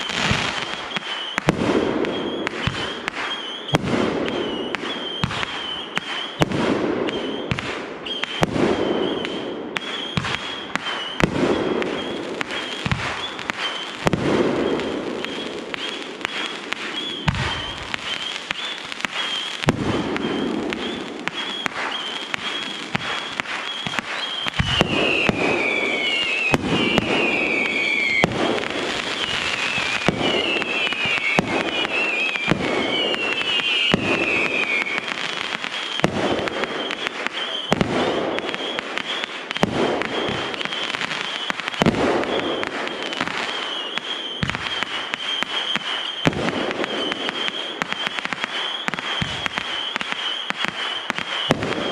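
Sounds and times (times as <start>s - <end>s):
firework crackle: 0.0s - 51.9s
firework shells booming: 0.0s - 51.9s
firework whistles falling in pitch: 0.0s - 51.9s.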